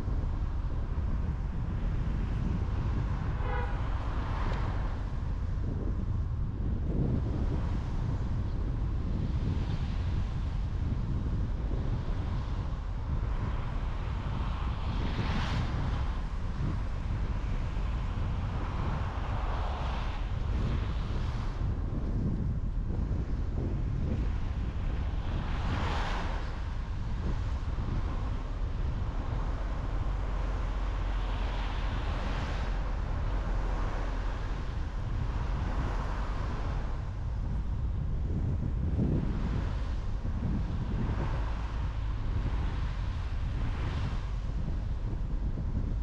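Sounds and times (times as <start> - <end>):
car road and wind noise: 0.0 - 46.0
deep tyre rumble: 0.0 - 46.0.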